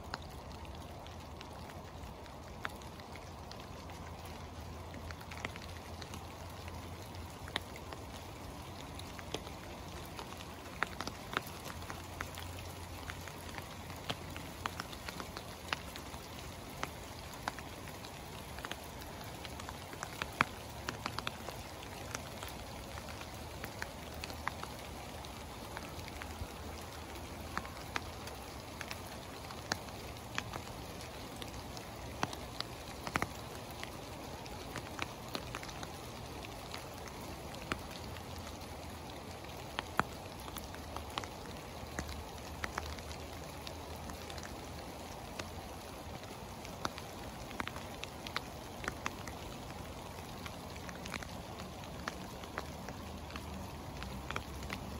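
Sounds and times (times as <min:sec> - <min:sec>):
rain hiss: 0:00.0 - 0:54.9
hailstones ticking on hard surfaces: 0:04.8 - 0:54.9.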